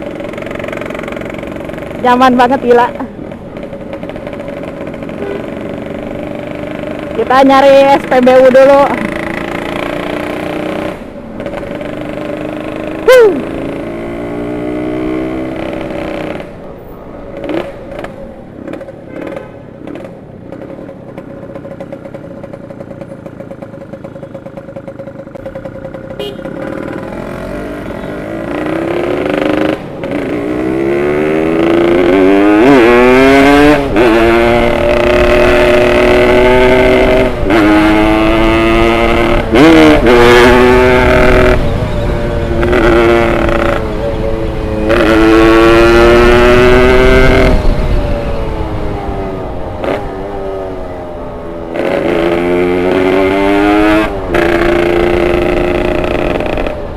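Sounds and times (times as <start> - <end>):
motorcycle engine revving: 0.0 - 16.7, 17.3 - 56.9.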